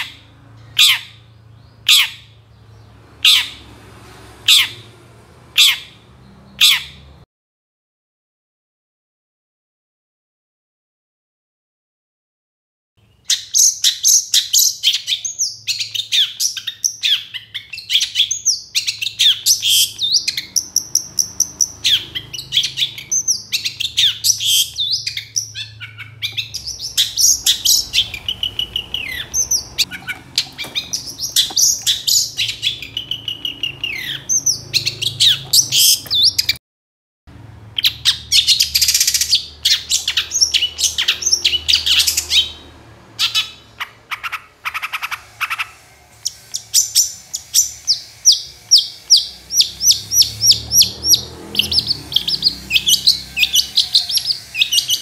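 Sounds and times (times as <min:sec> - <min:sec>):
bird singing: 0:00.0 - 0:03.7, 0:04.5 - 0:04.9, 0:05.5 - 0:07.2, 0:13.0 - 0:36.6, 0:37.7 - 0:55.0.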